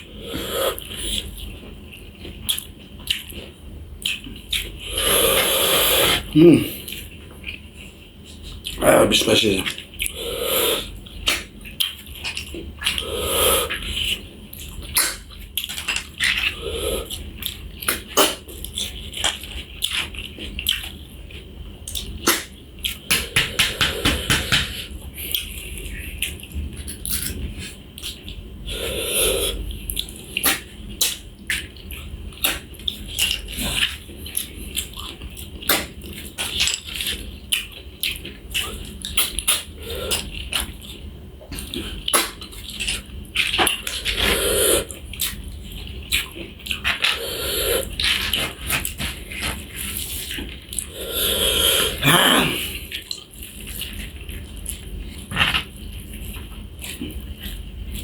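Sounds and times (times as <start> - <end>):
wet chewing and slurping: 0.0 - 58.0.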